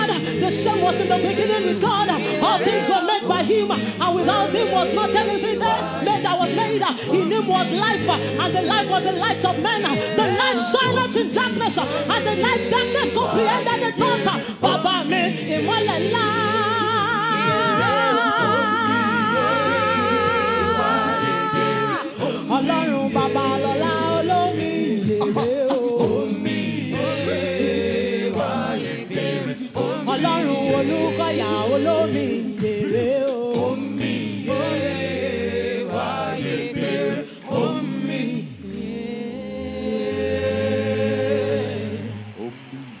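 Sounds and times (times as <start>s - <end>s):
gospel group singing in harmony: 0.0s - 43.0s.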